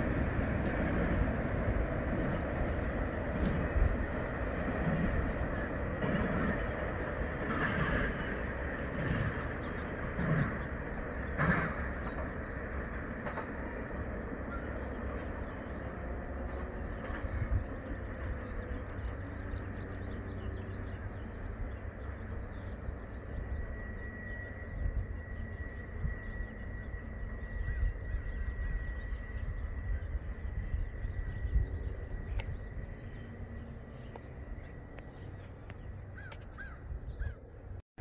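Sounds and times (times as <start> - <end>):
train rumble: 0.0 - 37.8
bird calls: 5.4 - 37.6.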